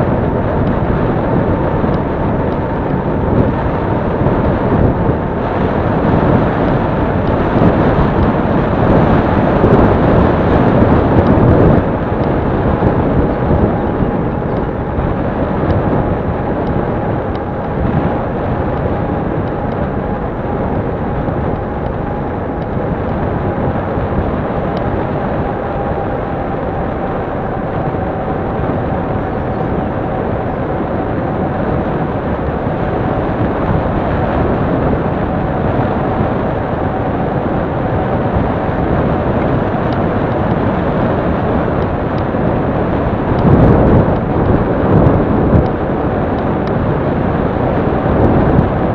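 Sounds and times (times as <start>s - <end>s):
faint steady whine: 0.0s - 48.9s
wind on microphone: 0.0s - 48.9s.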